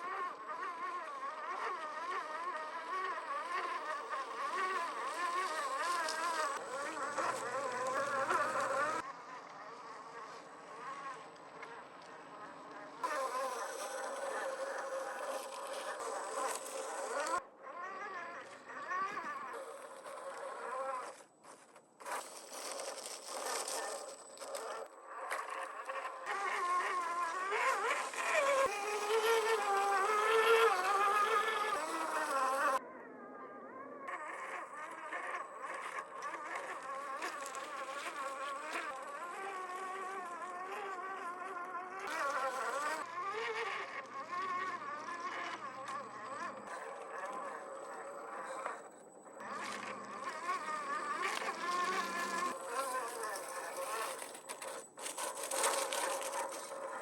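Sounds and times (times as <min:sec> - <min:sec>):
electric motor whine: 0:00.0 - 0:57.0.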